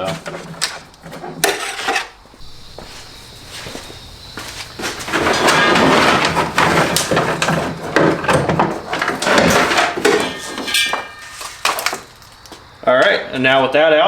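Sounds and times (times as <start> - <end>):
wiring harness rustling and scraping: 0.0 - 13.2.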